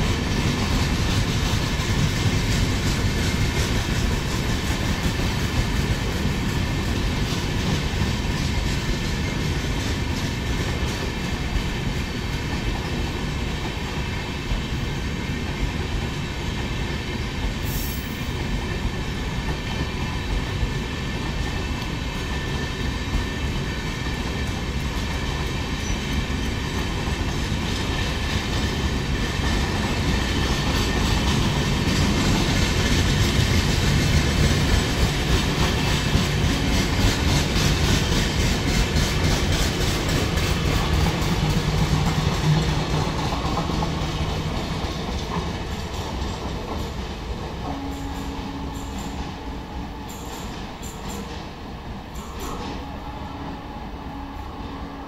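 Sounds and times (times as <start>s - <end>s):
clickety-clack over rail joints: 0.0s - 53.6s
freight train passing: 0.0s - 55.0s.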